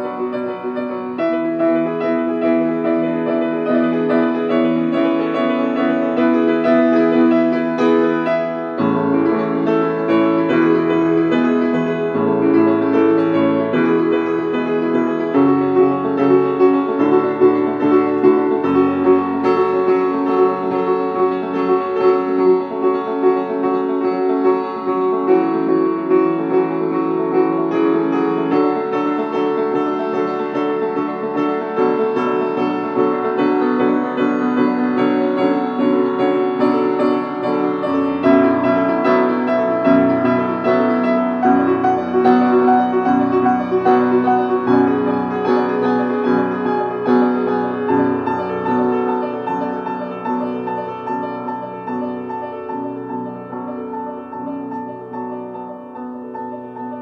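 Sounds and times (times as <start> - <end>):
background piano music: 0.0 - 57.0.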